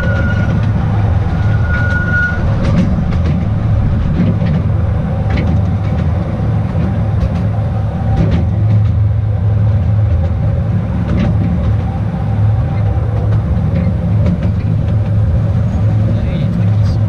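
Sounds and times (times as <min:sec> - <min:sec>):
electric train humming: 0:00.0 - 0:17.0
wheels clicking on rails: 0:00.0 - 0:17.0.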